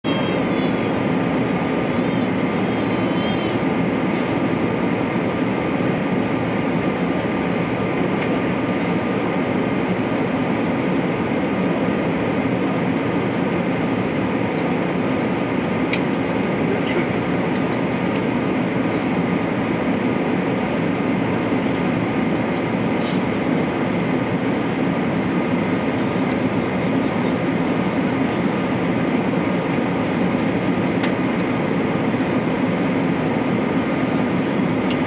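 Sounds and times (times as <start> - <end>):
airflow over fuselage: 0.0 - 35.0
jet engine rush in cabin: 0.0 - 35.0.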